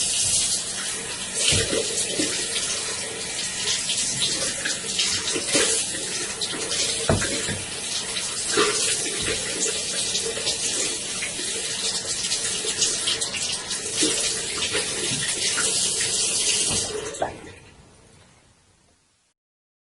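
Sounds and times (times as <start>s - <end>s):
tap water running into sink: 0.0s - 17.6s.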